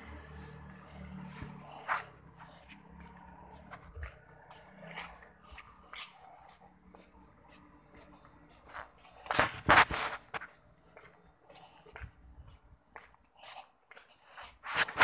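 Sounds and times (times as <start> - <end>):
footsteps on a road: 0.0 - 15.0.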